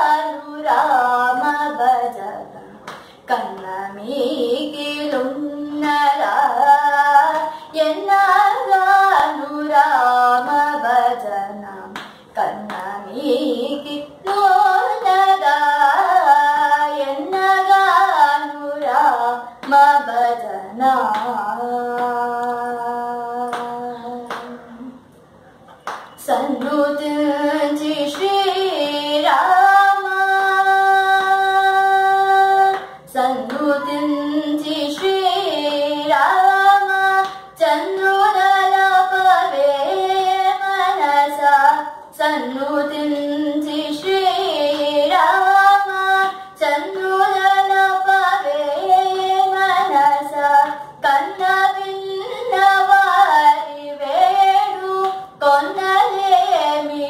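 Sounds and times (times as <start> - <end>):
woman singing unaccompanied: 0.0 - 25.0, 25.8 - 57.0.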